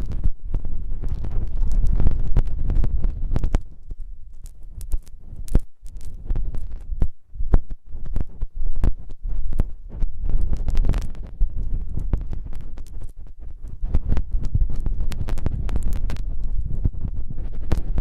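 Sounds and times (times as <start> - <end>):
rubbing and scratching microphone: 0.0 - 18.0.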